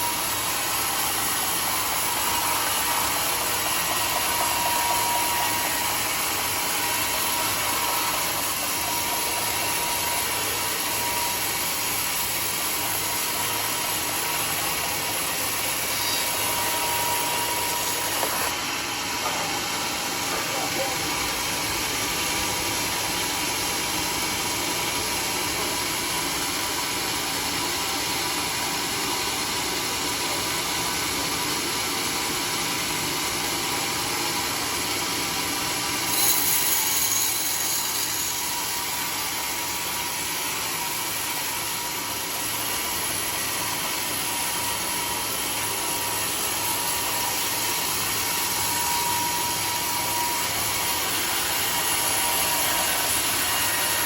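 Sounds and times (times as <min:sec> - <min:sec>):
sawmill saw sawing wood: 0:00.0 - 0:54.0.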